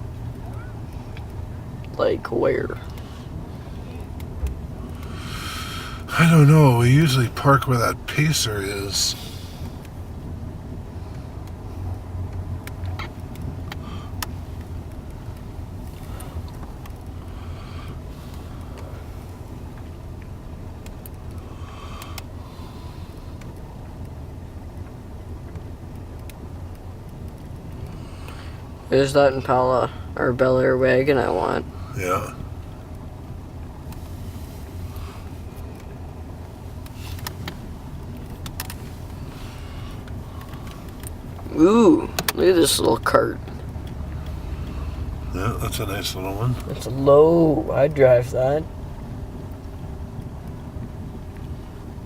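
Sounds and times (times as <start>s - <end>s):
car rumble from inside cabin: 0.0s - 52.0s.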